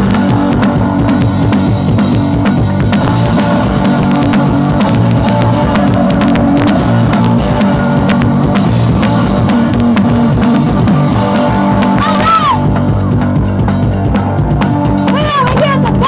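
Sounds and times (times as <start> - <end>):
drum kit hits: 0.0 - 15.2
electric guitar: 0.0 - 16.0.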